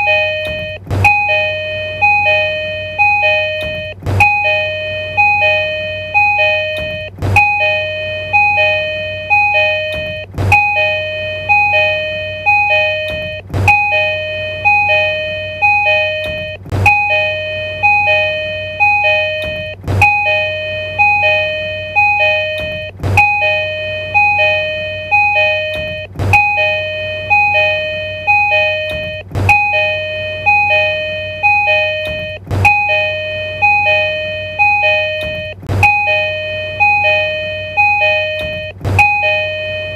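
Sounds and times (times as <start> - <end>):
two-tone train door chime: 0.0 - 39.9.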